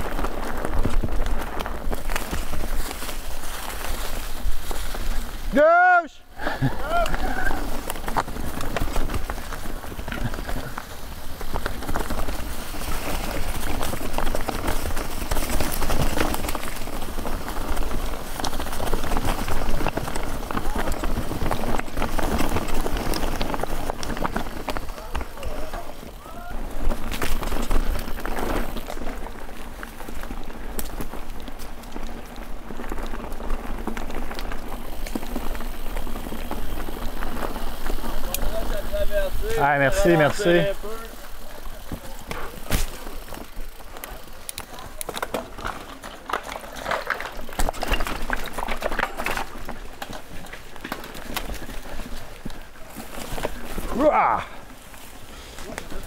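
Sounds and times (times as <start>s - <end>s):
bike rattling: 0.0s - 56.0s
tyres rushing over rock and gravel: 0.0s - 56.0s.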